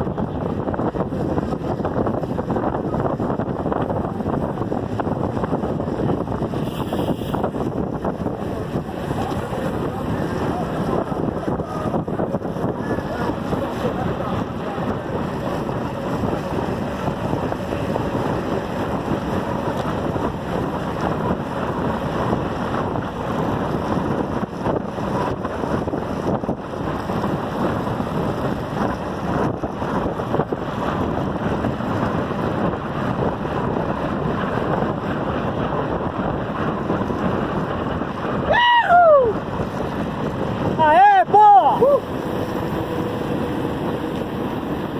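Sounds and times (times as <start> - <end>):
road and tyre noise: 0.0 - 44.9
wind rushing over microphone: 0.0 - 44.9.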